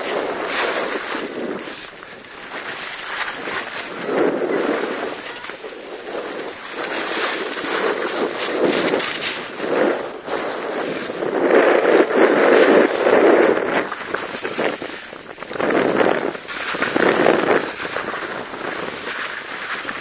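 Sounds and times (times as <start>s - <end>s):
skis scraping across snow: 0.0s - 20.0s
wind on microphone: 0.0s - 20.0s.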